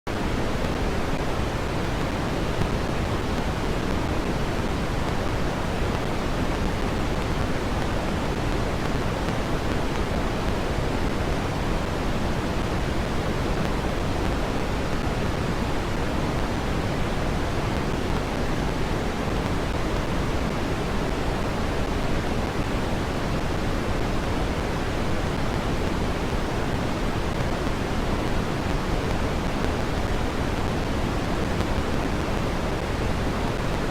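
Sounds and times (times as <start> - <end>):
red noise rush: 0.1 - 33.9.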